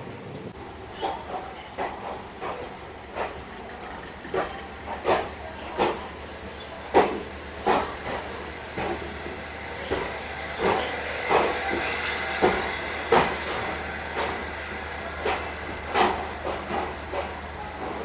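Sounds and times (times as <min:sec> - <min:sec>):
train running hiss: 0:00.0 - 0:18.0
train wheels clicking over rail joints: 0:00.3 - 0:06.1, 0:06.8 - 0:18.0.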